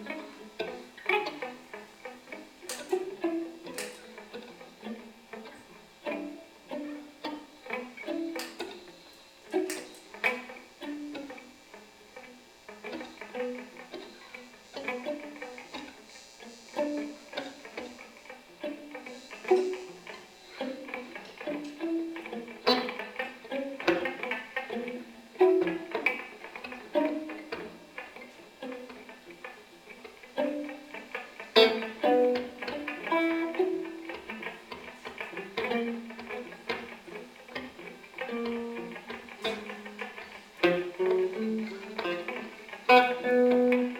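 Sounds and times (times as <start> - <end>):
electric guitar plucked notes: 0.0 - 43.9.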